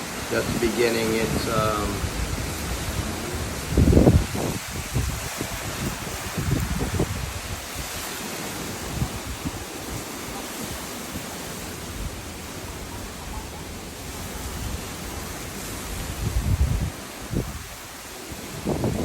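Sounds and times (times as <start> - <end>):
strong gusting wind: 0.0 - 19.0
wind buffeting microphone: 0.1 - 19.0.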